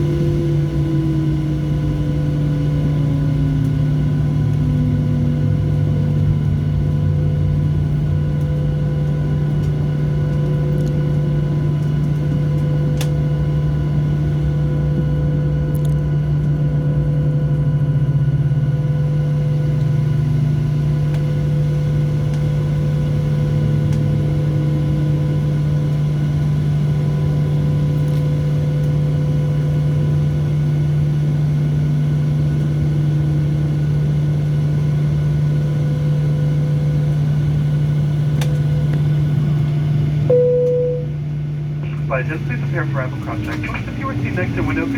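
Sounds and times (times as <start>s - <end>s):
aircraft cabin drone: 0.0s - 44.9s.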